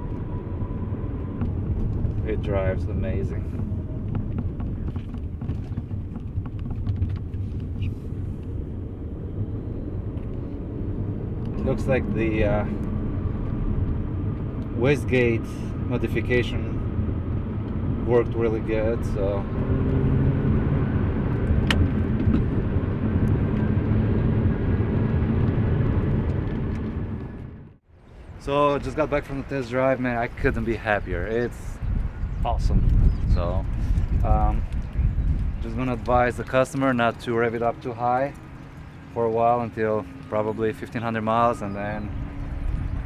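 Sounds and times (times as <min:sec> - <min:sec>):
car engine rumble: 0:00.0 - 0:43.0
road noise: 0:00.0 - 0:43.0.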